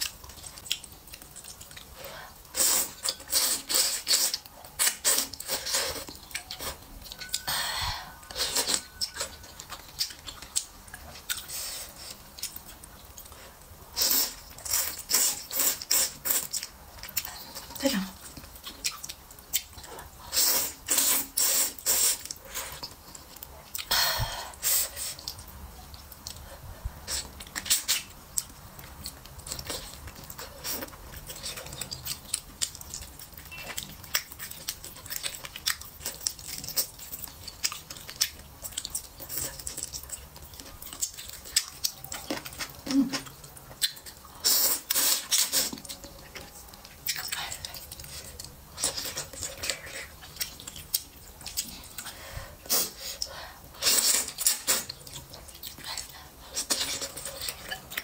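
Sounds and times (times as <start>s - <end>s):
chewing and mouth smacking: 0.0s - 7.5s, 8.2s - 23.9s, 25.0s - 58.0s.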